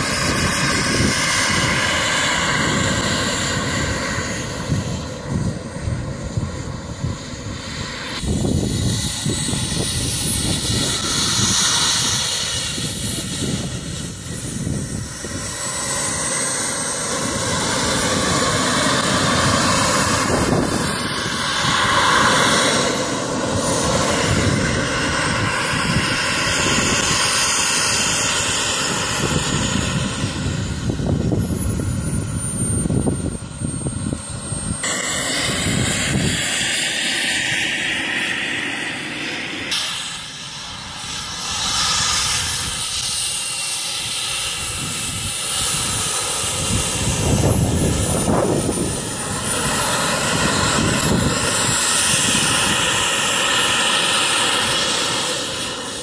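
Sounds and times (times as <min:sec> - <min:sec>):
exhaust rush: 0:00.0 - 0:56.0
model jet turbine whining: 0:00.0 - 0:56.0.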